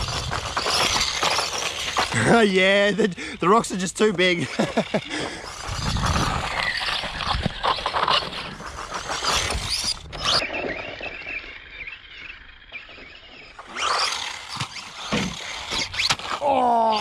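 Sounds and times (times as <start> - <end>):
rc car motor whine: 0.0 - 3.5, 4.2 - 17.0.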